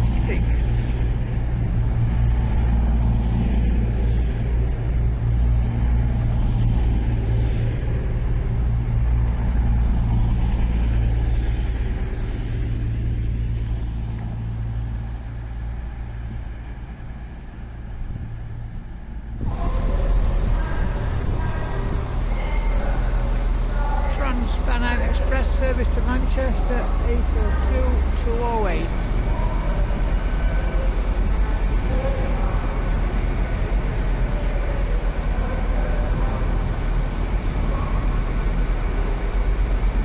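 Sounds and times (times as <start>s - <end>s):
diesel train engines rumbling: 0.0s - 40.0s.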